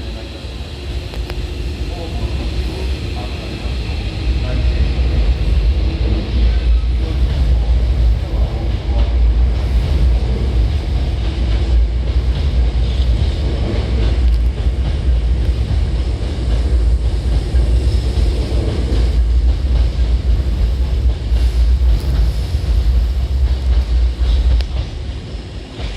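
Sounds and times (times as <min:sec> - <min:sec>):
electric train rumble: 0:00.0 - 0:25.9.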